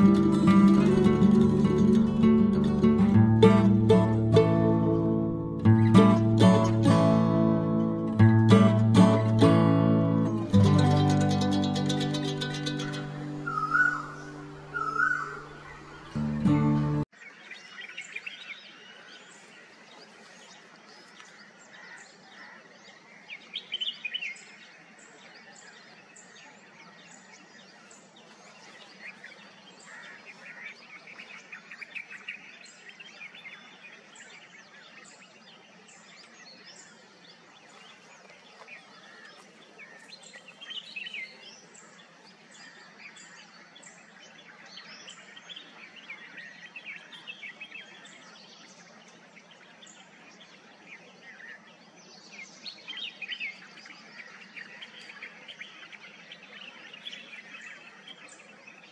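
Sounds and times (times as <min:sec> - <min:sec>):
bird singing warbled phrases: 0:00.0 - 0:19.6, 0:21.0 - 0:58.9.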